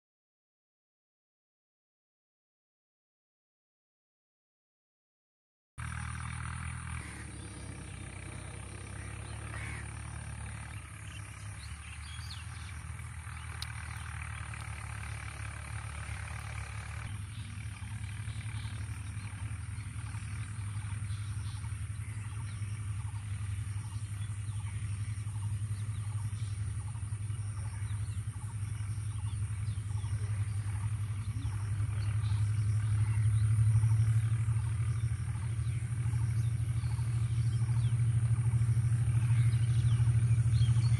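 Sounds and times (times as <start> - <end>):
diesel locomotive rumble: 5.8 - 40.9.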